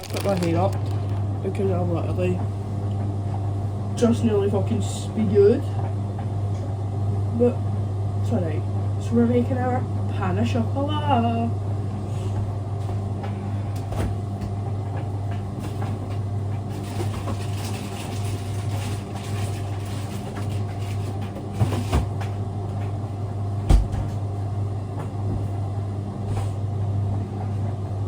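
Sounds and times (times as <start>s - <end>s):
kitchen appliance humming: 0.0s - 28.0s.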